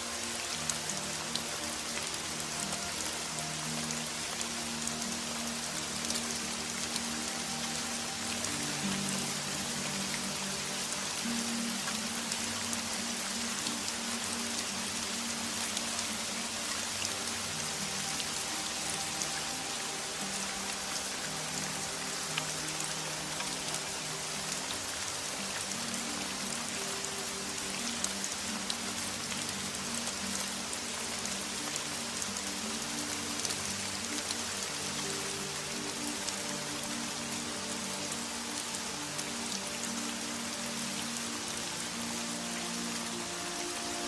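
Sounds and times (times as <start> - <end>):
soft music of held low notes: 0.0 - 44.0
steady rain falling: 0.0 - 44.0.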